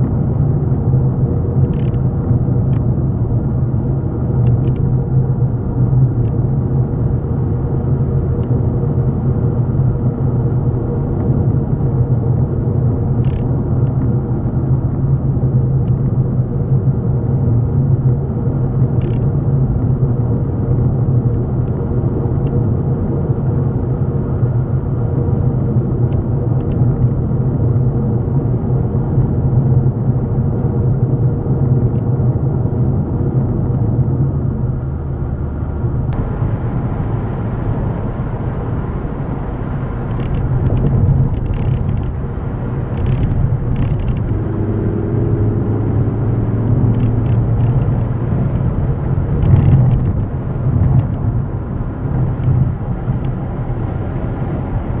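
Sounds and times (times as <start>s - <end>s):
vehicle engine rumble: 0.0s - 55.0s.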